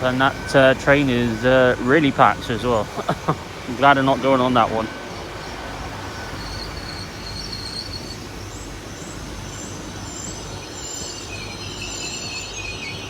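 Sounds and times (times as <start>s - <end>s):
high wheel squeal: 0.0s - 13.0s
train rumbling on rails: 0.0s - 13.0s.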